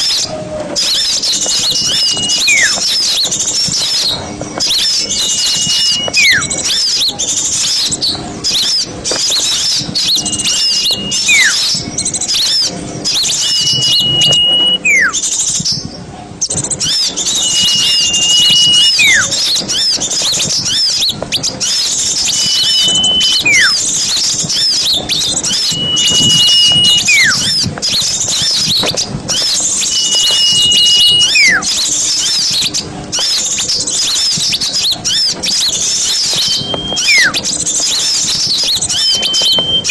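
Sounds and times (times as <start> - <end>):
small birds chattering: 0.0 - 39.9
whistle with downward slur: 0.8 - 7.1, 9.4 - 15.4, 16.8 - 33.4, 34.2 - 39.9.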